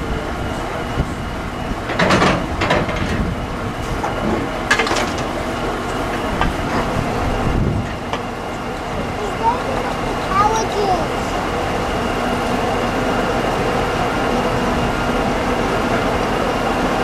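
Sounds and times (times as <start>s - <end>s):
railway wagons clanking and rattling: 0.0s - 17.0s
steady mechanical rumble: 0.0s - 17.0s.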